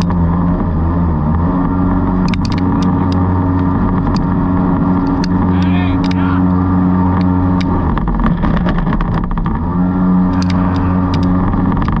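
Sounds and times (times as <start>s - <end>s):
sharp knocks and clicks: 0.0s - 0.7s, 1.3s - 9.6s, 10.3s - 12.0s
boat engine running: 0.0s - 12.0s.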